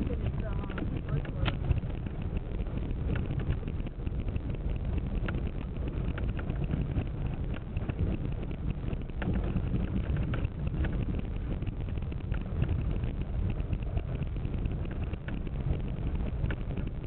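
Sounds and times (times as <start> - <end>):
road and tyre rumble: 0.0 - 17.0
small ticks and rattles: 0.0 - 17.0
wind buffeting: 0.0 - 17.0.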